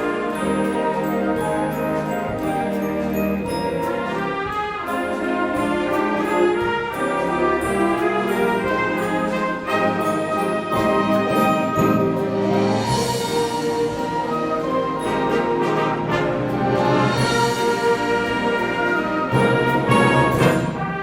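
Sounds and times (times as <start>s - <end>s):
brass instruments: 0.0s - 21.0s
concert band playing: 0.0s - 21.0s.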